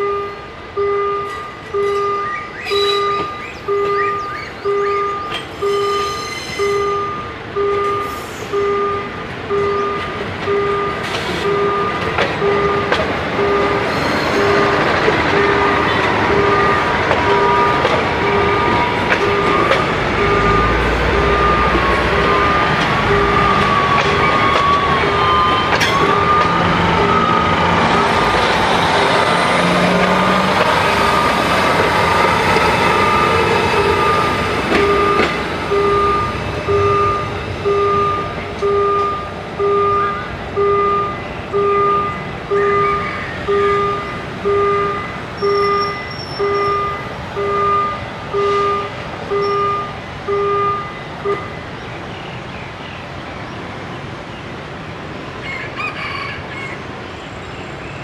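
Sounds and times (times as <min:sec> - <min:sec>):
crossing alarm two-tone beeping: 0:00.0 - 0:51.8
diesel train passing: 0:00.0 - 0:58.0
road traffic hum: 0:00.0 - 0:58.0.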